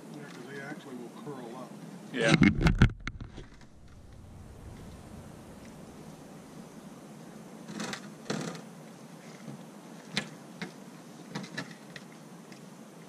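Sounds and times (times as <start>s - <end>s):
low outdoor hiss: 0.0s - 13.0s.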